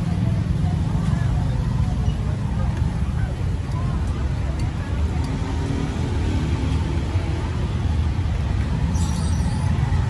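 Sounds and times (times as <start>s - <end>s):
faint voices: 0.0s - 10.0s
rumble of passing vehicles: 0.0s - 10.0s.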